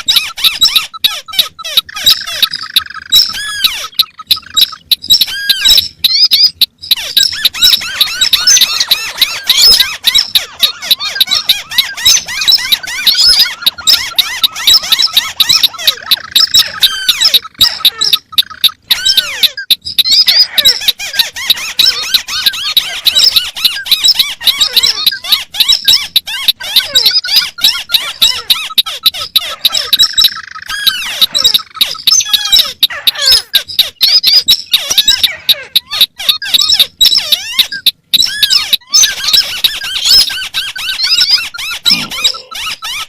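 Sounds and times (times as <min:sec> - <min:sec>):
crakes calling rapid squeaky chatter: 0:00.0 - 0:43.0.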